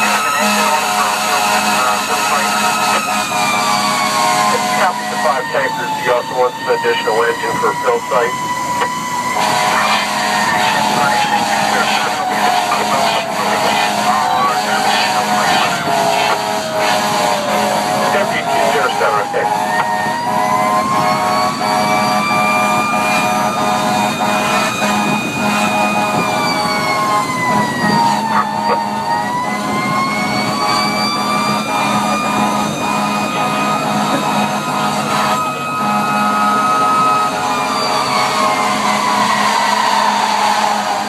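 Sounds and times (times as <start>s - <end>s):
fire engine siren wailing: 0.0s - 41.0s
truck engine hum: 0.0s - 41.0s.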